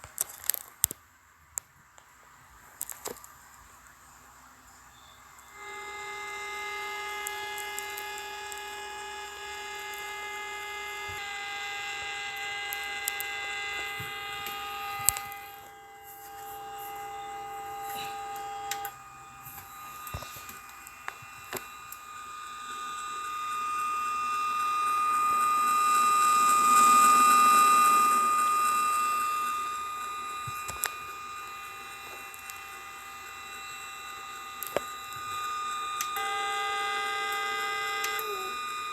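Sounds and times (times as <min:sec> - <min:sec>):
radio hiss: 0:00.0 - 0:38.9
electronic radio tones: 0:04.4 - 0:38.9
clicks: 0:05.3 - 0:38.9.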